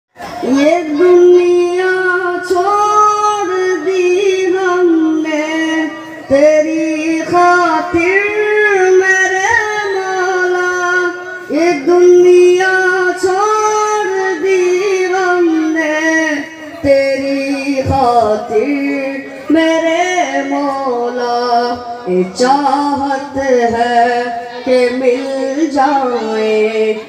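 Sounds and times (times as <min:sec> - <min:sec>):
boy singing into microphone: 0:00.2 - 0:27.0.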